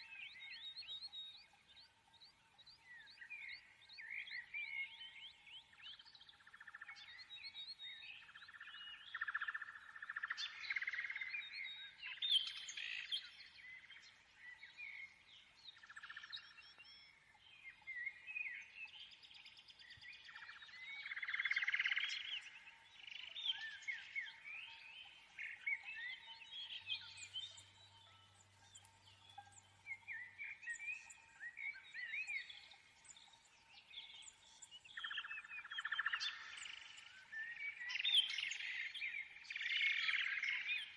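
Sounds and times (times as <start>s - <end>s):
birds chirping and twittering: 0.0s - 40.9s.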